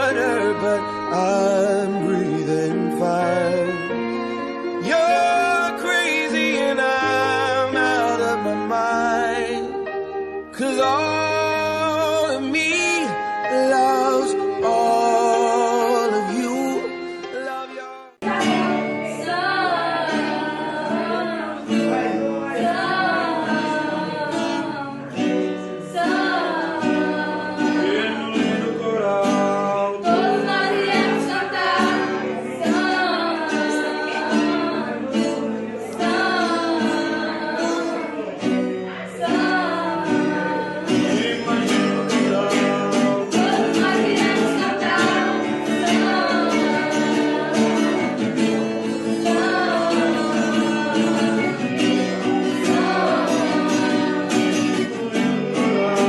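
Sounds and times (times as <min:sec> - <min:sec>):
acoustic guitar: 0:00.0 - 0:56.0
person singing pop song: 0:00.0 - 0:56.0.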